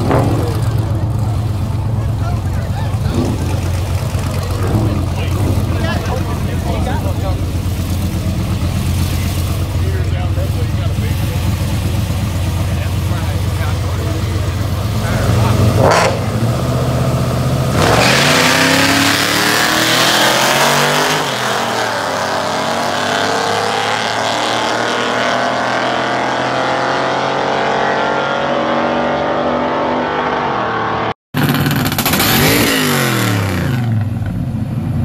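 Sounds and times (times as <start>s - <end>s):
engines revving through gears: 0.0s - 1.6s, 2.5s - 34.4s
nearby engine revving: 0.0s - 34.1s.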